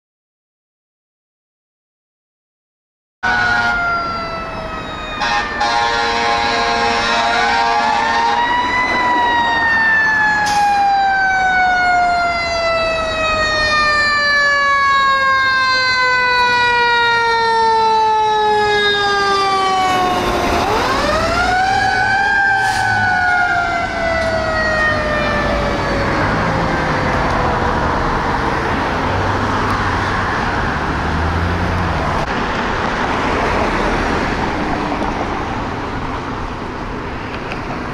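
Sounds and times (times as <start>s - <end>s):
fire engine siren wailing: 3.2s - 37.9s
truck engine and tyre noise: 3.2s - 37.9s.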